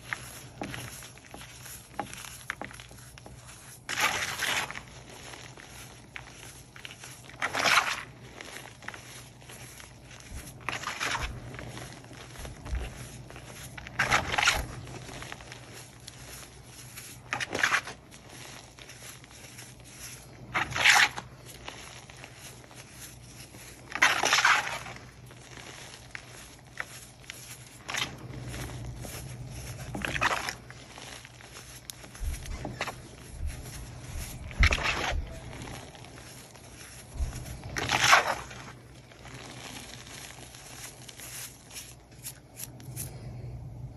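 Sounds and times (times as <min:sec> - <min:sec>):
hands crumbling chalk: 0:00.0 - 0:43.3.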